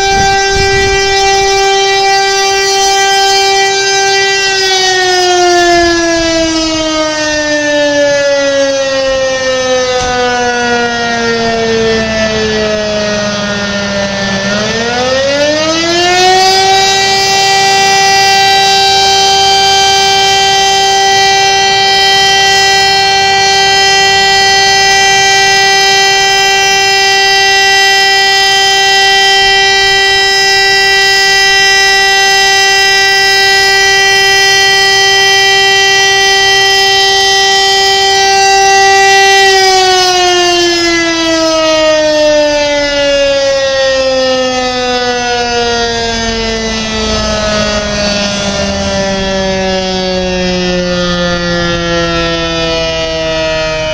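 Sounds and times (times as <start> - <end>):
siren wailing: 0.0 - 53.9.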